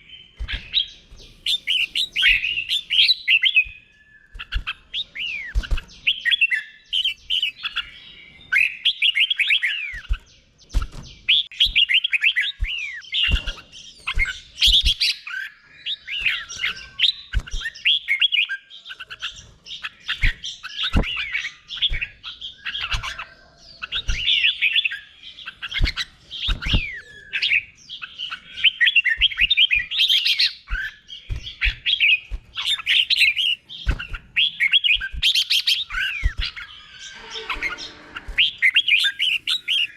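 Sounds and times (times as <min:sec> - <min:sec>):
bulbul singing warbled phrases: 0:00.0 - 0:10.6, 0:11.2 - 0:39.9.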